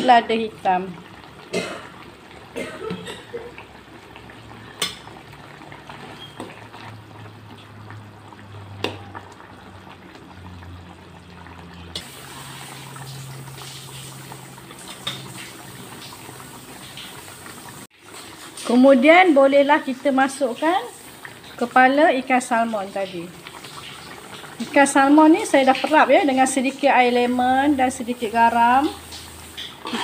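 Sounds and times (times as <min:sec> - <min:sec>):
curry sauce bubbling: 0:00.0 - 0:30.0.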